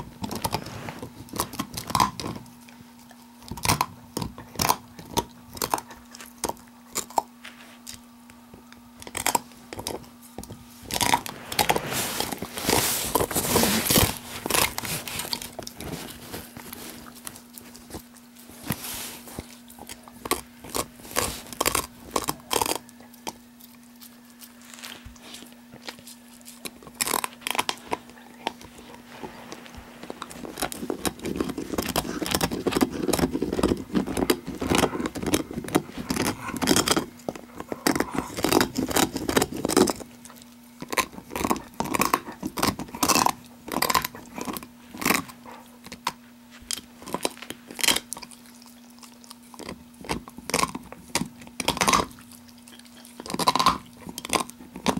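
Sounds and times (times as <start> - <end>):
dog gnawing on a bone: 0.0 - 54.9.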